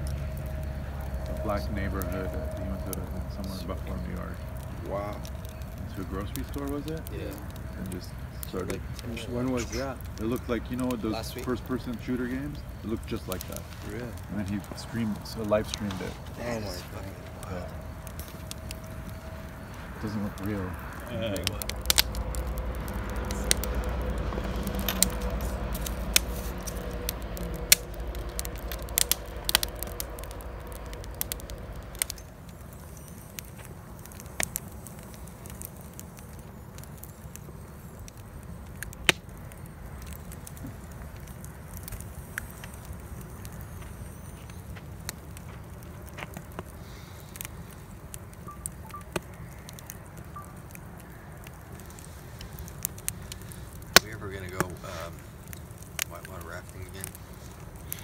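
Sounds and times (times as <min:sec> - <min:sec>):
campfire crackling and popping: 0:00.0 - 0:58.0
low background sound: 0:00.0 - 0:58.0.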